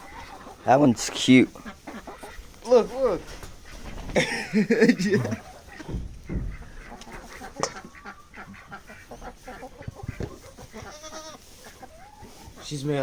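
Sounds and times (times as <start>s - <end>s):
fowl honking and squawking: 0.0s - 13.0s.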